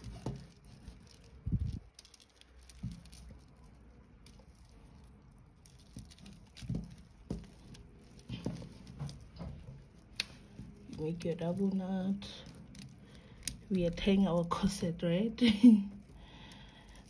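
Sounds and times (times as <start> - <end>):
beads rustling and clicking: 0.0 - 14.3, 15.9 - 17.0.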